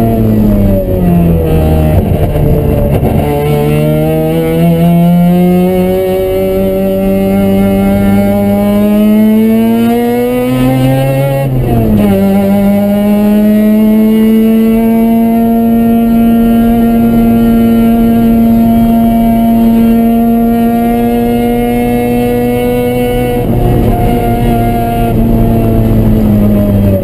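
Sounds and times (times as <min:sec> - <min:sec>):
rotary engine revving: 0:00.0 - 0:27.0.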